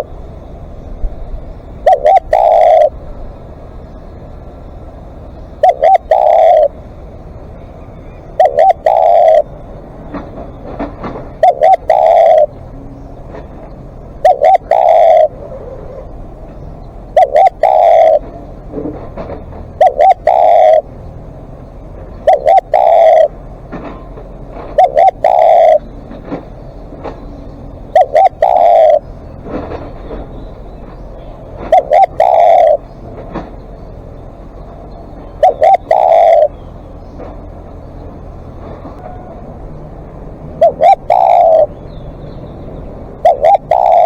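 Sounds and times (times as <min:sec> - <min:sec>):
dove cooing: 0:00.0 - 0:44.0.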